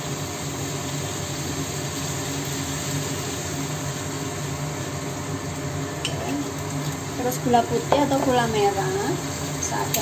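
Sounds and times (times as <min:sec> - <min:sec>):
kitchen fan whirring: 0:00.0 - 0:10.0.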